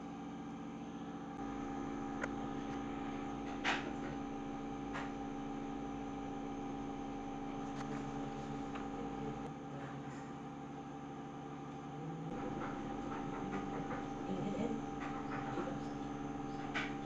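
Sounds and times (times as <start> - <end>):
computer electrical hum: 0.0 - 17.0.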